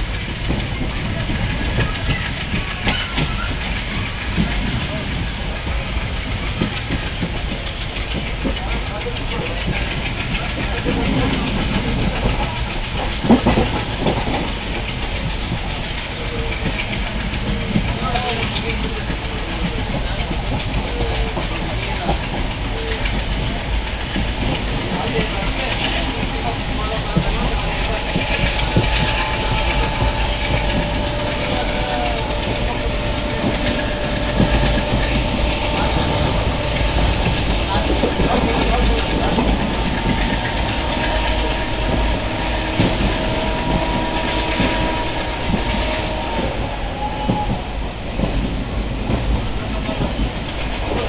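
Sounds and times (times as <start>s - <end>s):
diesel locomotive engine chugging: 0.0s - 51.0s
train wheels clicking over track: 0.0s - 51.0s.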